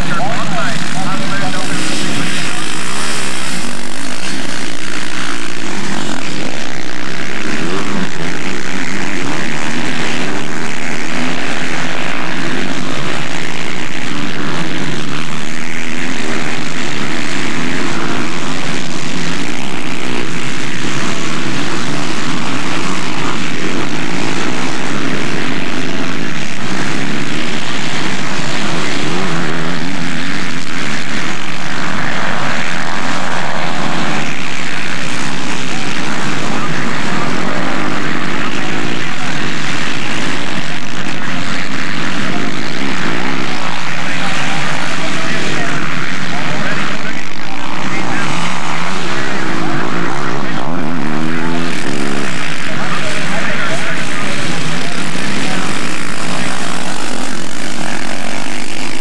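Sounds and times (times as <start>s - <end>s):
motocross bike engines racing: 0.0s - 59.0s.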